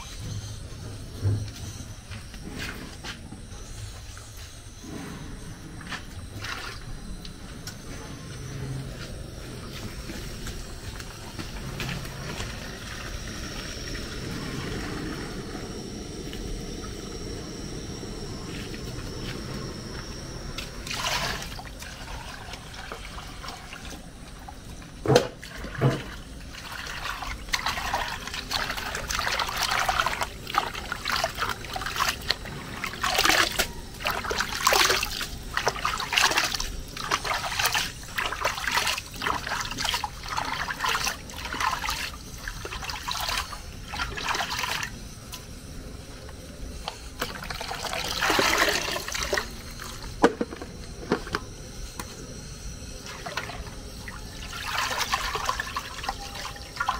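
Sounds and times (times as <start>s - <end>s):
thin high whine: 0.0s - 56.9s.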